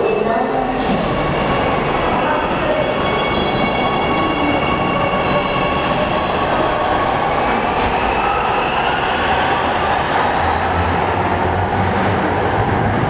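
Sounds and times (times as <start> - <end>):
train wheels rumbling on track: 0.7 - 13.0.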